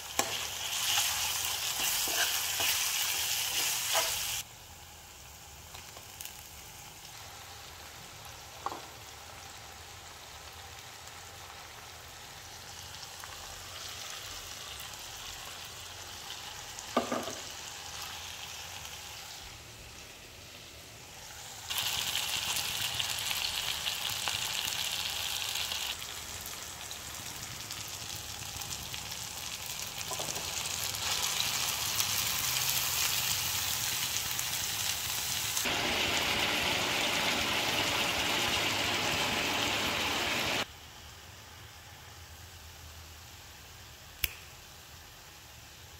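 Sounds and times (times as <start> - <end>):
food sizzling in oil: 0.0 - 41.6.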